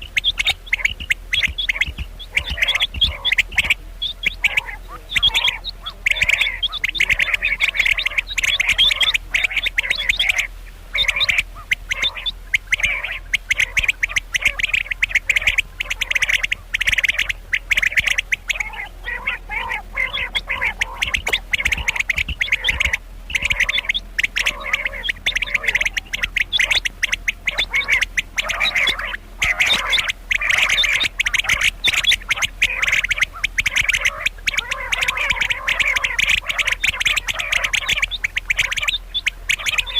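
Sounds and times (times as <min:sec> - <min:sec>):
quail raspy chattering: 0:00.0 - 0:39.9.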